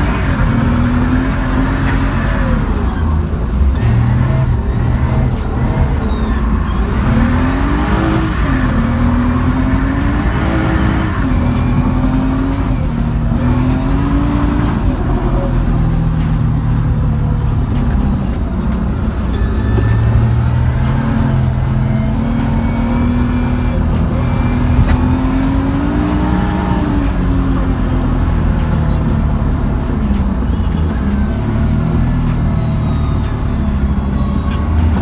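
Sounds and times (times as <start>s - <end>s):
car engine revving: 0.0s - 35.0s
music playing: 0.0s - 35.0s.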